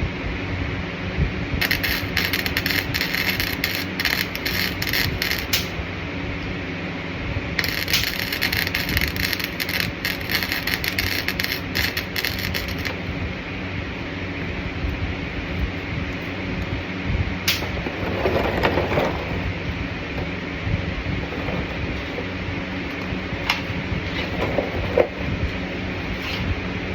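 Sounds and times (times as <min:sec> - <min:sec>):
steady low hum: 0:00.0 - 0:26.9
arc welding crackling: 0:01.6 - 0:26.9.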